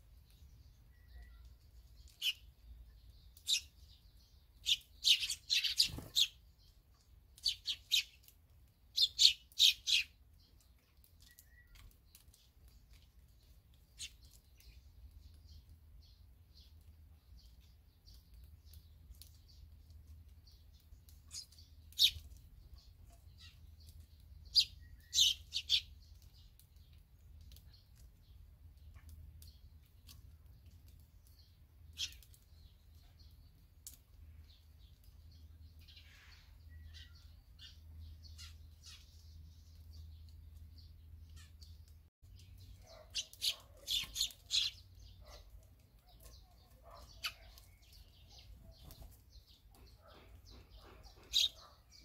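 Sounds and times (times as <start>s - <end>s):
swallows chirping: 0.1s - 52.0s.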